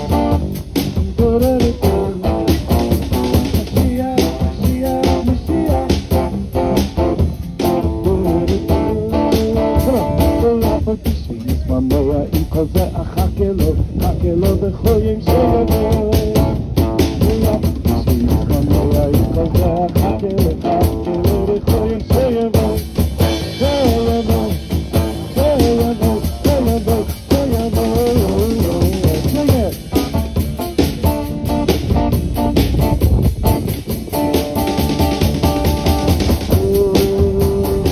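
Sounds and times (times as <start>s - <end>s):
guitars playing melody: 0.0s - 12.0s, 14.9s - 37.9s
drum kit beat: 0.0s - 37.9s.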